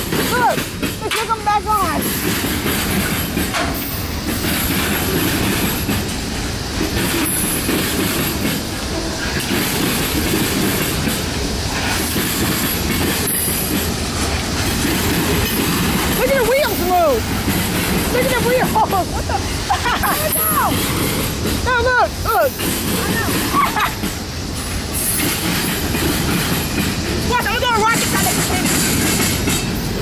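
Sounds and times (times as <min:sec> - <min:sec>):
train wheels rumbling on rail: 0:00.0 - 0:30.0
wheels clacking over rail joints: 0:00.0 - 0:30.0.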